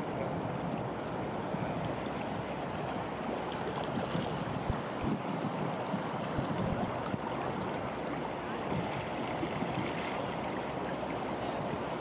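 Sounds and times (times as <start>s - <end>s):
river water lapping at bank: 0.0s - 12.0s.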